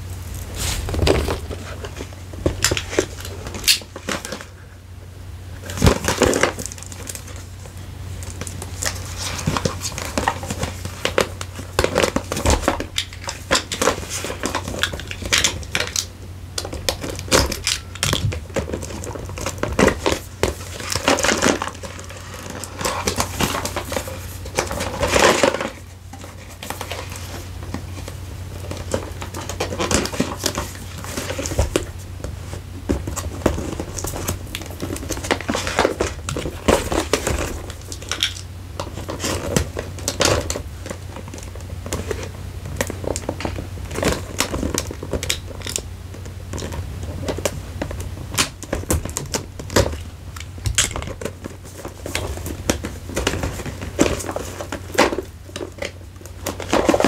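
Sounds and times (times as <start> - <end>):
packaging crinkling and rustling: 0.0 - 57.0
steady low hum: 0.0 - 57.0.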